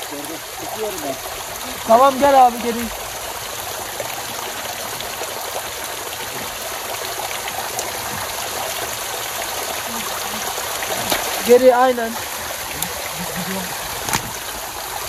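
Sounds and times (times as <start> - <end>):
water splashing into a pool: 0.0 - 15.0.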